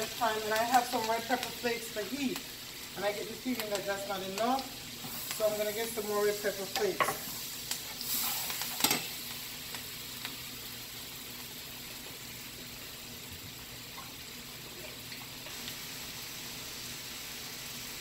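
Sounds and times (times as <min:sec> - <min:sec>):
butter and garlic sizzling in a skillet: 0:00.0 - 0:18.0.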